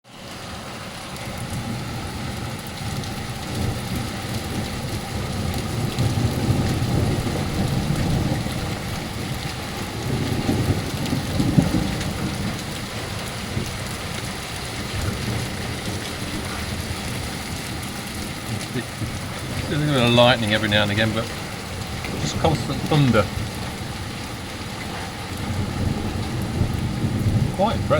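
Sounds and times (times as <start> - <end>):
torrential rain: 0.0 - 27.9
rolling thunder: 1.4 - 27.9.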